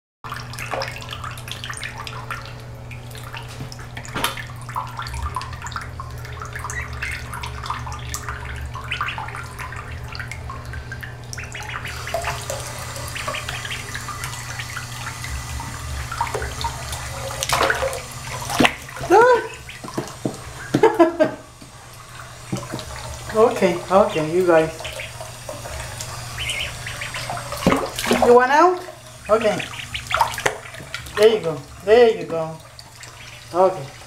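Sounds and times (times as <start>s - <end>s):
ducklings splashing in water: 0.3s - 34.0s.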